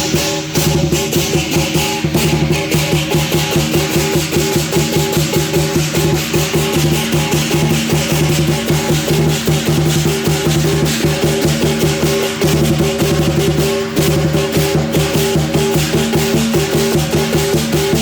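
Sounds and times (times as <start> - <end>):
fast drum beating: 0.0 - 18.0
ringing metal percussion: 0.0 - 18.0.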